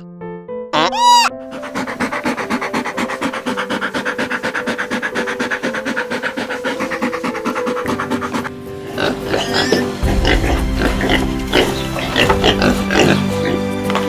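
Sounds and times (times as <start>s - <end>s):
background music with held notes: 0.0s - 14.0s
fast rhythmic rasping: 1.3s - 14.0s.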